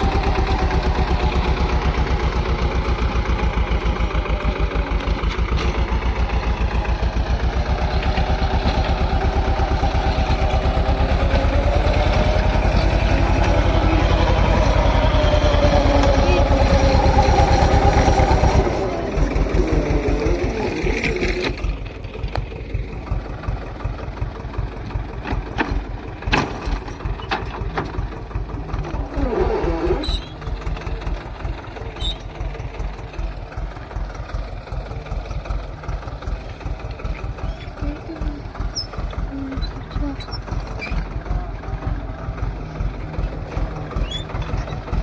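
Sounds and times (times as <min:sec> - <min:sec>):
tractor diesel engine idling: 0:00.0 - 0:45.0.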